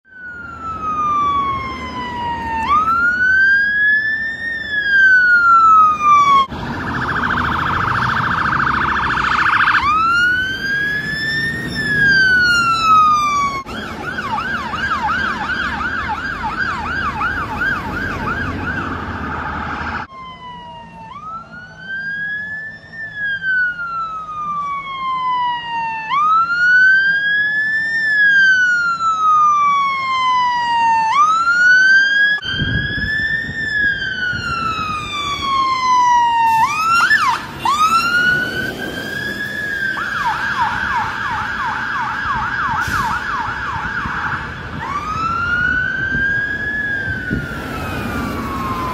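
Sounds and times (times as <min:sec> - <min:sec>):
engine and traffic rumble: 0:00.0 - 0:48.9
fire engine siren: 0:00.0 - 0:48.9.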